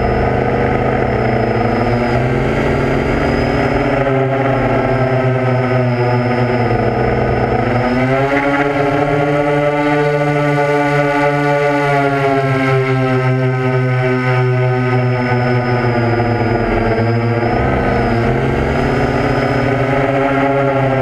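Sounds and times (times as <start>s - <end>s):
aircraft propeller hum: 0.0s - 21.0s.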